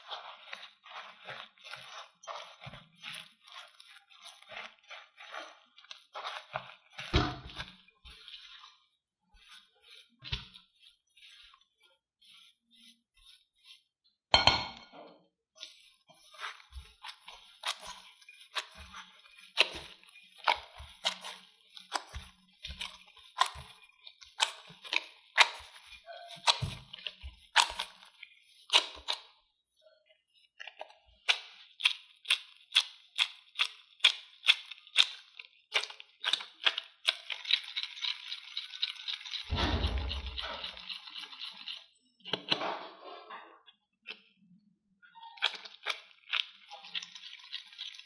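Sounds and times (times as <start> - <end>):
dough squishing: 0.0 - 14.4, 15.3 - 42.8, 44.0 - 48.0.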